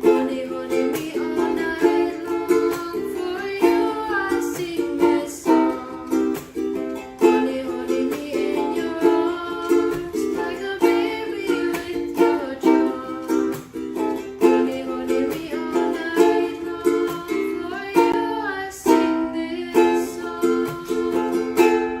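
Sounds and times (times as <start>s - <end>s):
ukulele strumming: 0.0s - 22.0s.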